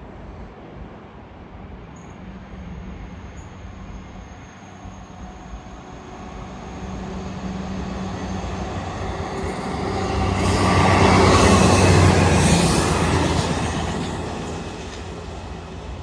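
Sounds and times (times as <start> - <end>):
low train hum: 0.0 - 16.0
train wheels rumbling on rails: 0.0 - 16.0.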